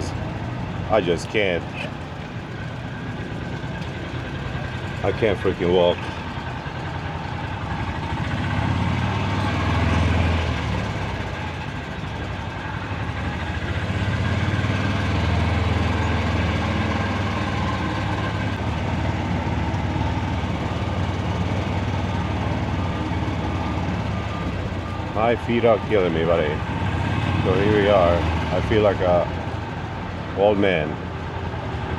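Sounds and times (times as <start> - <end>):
vehicle engine humming: 0.0 - 31.9.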